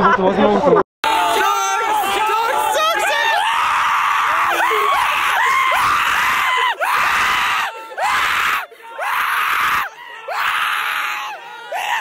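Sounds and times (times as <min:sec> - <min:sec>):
distorted screaming and shouting voices: 0:00.0 - 0:12.0.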